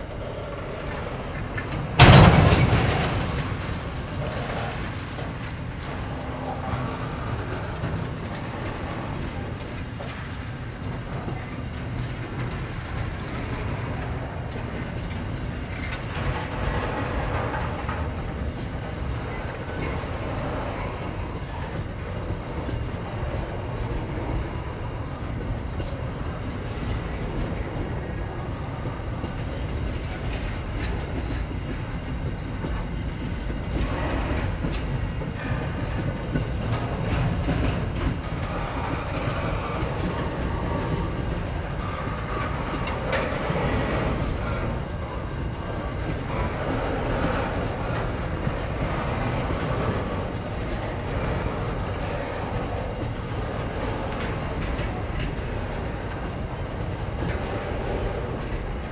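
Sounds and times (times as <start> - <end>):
train clicks and clatter: 0.0 - 58.9
train wheels rumbling on rail: 0.0 - 58.9.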